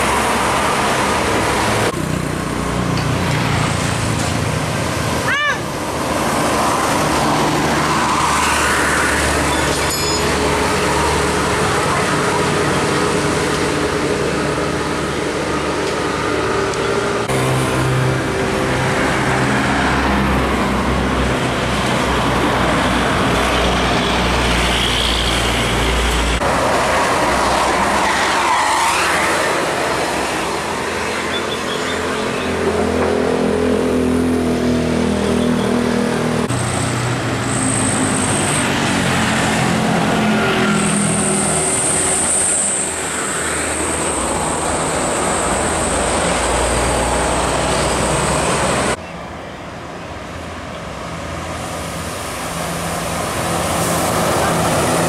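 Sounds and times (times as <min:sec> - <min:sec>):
buses driving past: 0:00.0 - 0:55.0.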